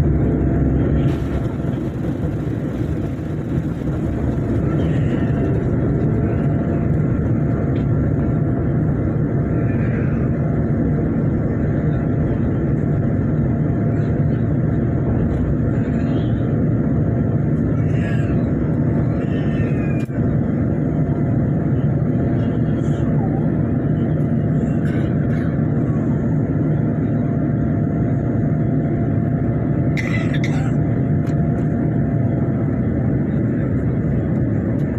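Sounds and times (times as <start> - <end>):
jet engines and rushing air: 0.0 - 34.9.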